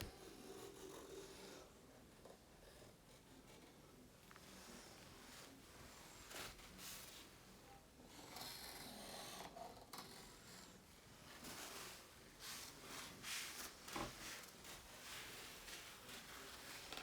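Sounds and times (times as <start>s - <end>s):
faint rustling and rubbing: 0.0s - 17.0s.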